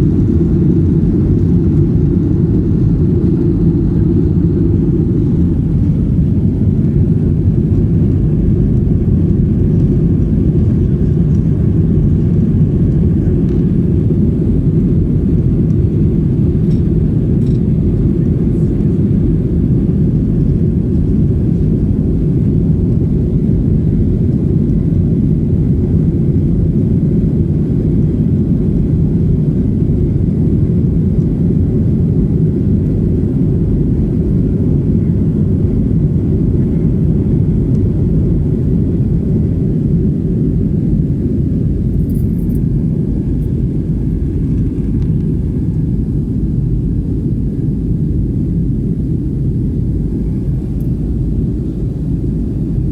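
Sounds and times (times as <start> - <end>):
jet engines rumbling: 0.0 - 52.9.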